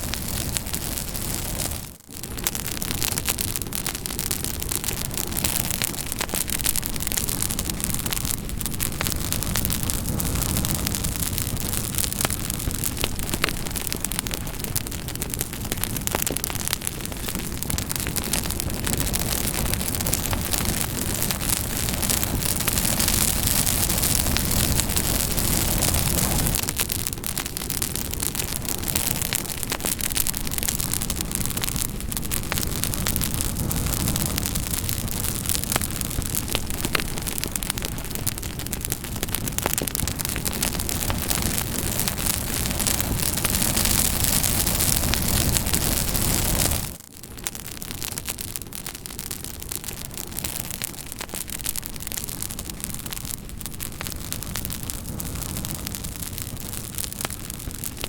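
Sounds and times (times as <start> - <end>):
campfire crackling and hissing: 0.0 - 58.0.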